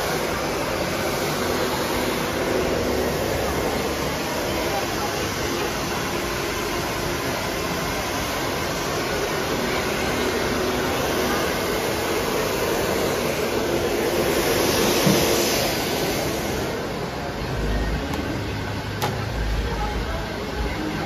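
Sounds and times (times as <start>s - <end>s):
hair dryer running: 0.0s - 19.4s.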